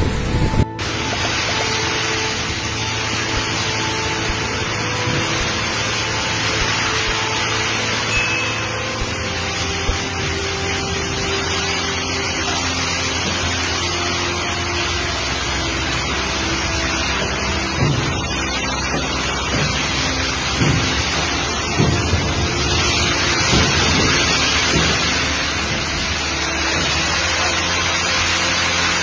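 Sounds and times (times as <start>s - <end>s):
heavy rain: 0.0s - 29.0s
strong storm wind: 0.0s - 29.0s.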